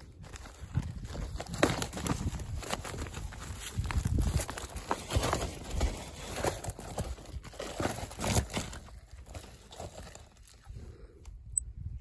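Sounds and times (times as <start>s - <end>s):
woven sack rustling: 0.0s - 10.7s.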